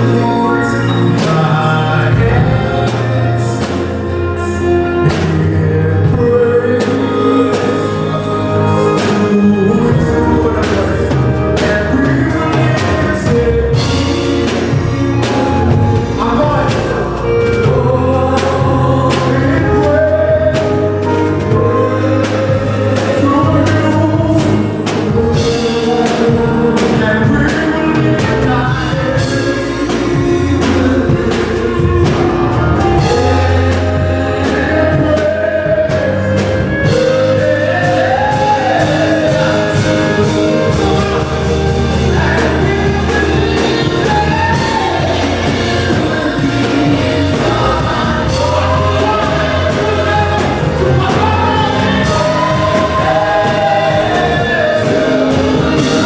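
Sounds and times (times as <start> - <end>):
band with bass and beat: 0.0 - 56.0
group singing gospel: 0.0 - 56.0.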